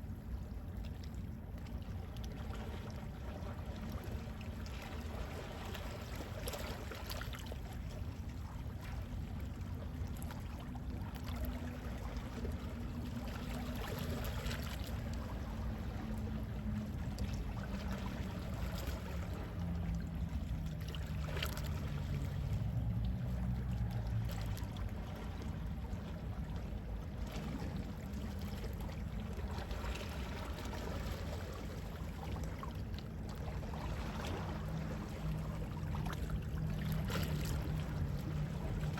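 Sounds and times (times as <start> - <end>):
sea waves lapping: 0.0 - 38.9.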